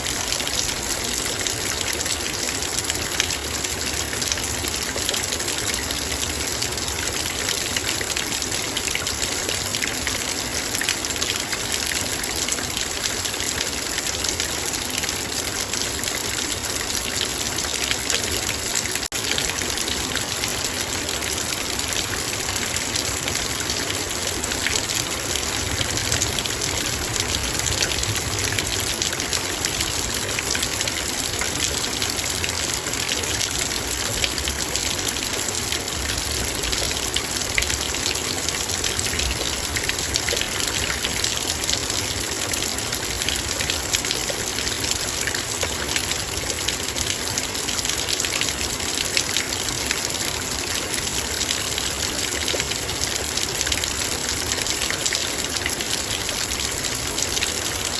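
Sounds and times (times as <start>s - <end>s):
raindrops on a metal bowl: 0.0s - 57.9s.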